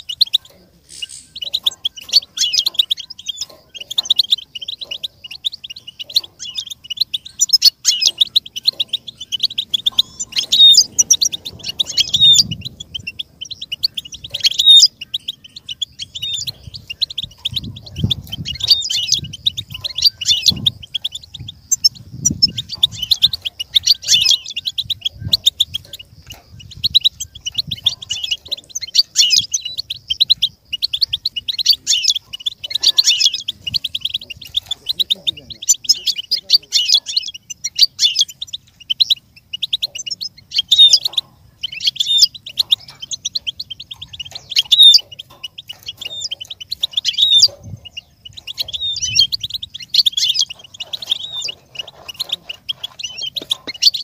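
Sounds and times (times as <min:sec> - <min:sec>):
finch twittering song: 0:00.0 - 0:54.0.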